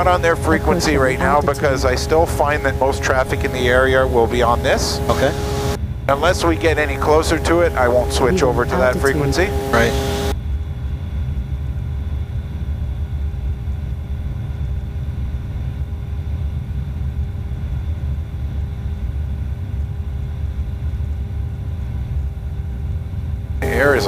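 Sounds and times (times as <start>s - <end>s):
aircraft engine droning: 0.0s - 24.0s.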